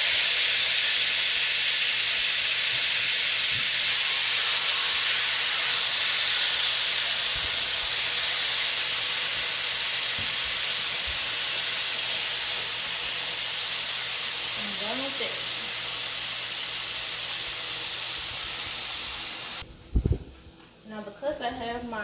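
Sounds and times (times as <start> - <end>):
chicken sizzling in skillet: 0.0 - 19.6.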